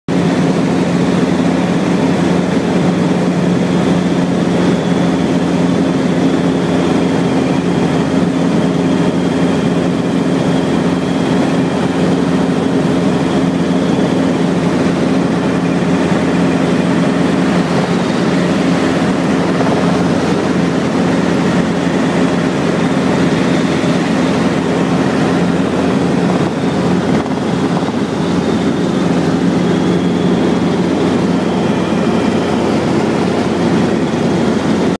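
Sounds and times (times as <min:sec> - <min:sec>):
helicopter engine and rotor drone: 0:00.1 - 0:34.9.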